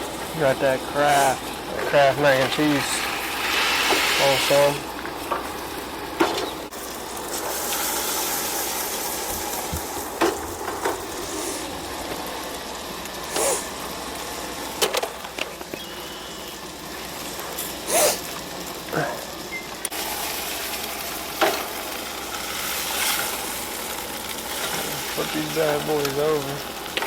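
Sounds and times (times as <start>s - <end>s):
fish sizzling in a pan: 0.0s - 27.0s.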